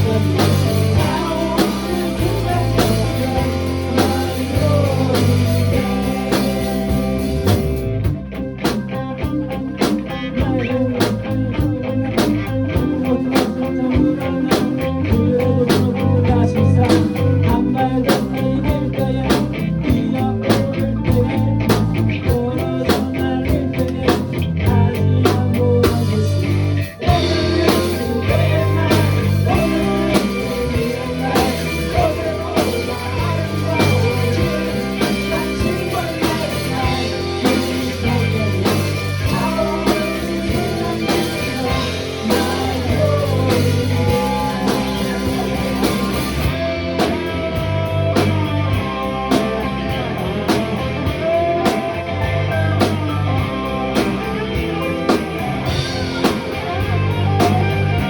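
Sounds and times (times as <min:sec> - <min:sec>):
drum kit with cymbals: 0:00.0 - 0:11.3, 0:12.2 - 0:58.0
bass guitar: 0:00.0 - 0:58.0
electric guitar: 0:00.0 - 0:58.0.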